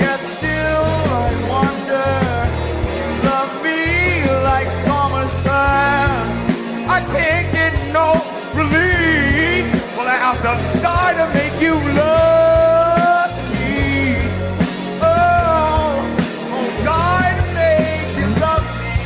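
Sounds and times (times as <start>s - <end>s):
person singing: 0.0s - 19.0s
rock band playing: 0.0s - 19.0s.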